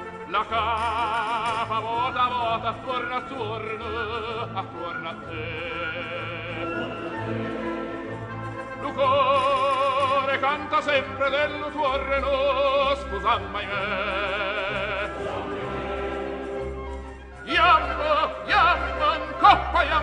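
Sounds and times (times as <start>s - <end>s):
operatic voice singing: 0.1s - 7.2s, 8.6s - 16.7s, 17.4s - 20.0s.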